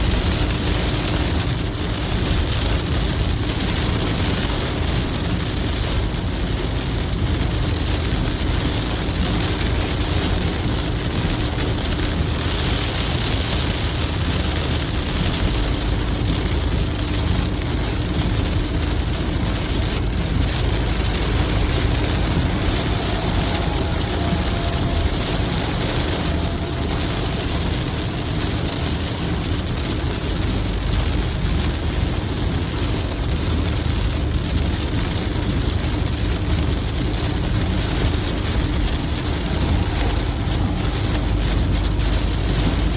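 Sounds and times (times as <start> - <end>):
low road rumble: 0.0 - 42.9
rain and wet tyre spray: 0.0 - 42.9.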